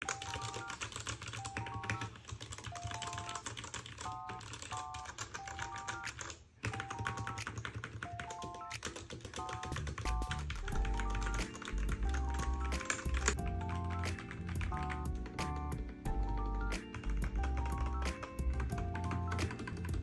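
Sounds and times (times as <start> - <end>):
mechanical keyboard typing: 0.0 - 20.0
simple background melody: 0.0 - 20.0.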